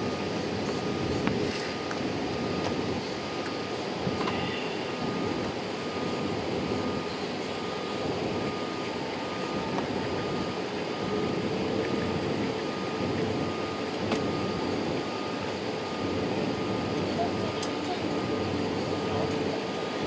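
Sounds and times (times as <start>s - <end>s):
jet engines running: 0.0s - 20.0s
thin steady whine: 0.0s - 20.0s.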